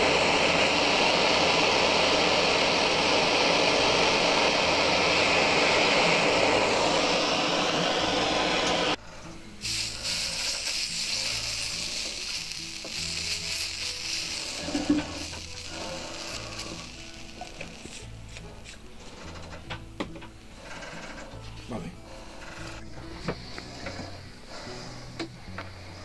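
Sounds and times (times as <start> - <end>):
blowtorch flame hissing: 0.0 - 26.0
hot metal crackling and sizzling: 0.0 - 26.0.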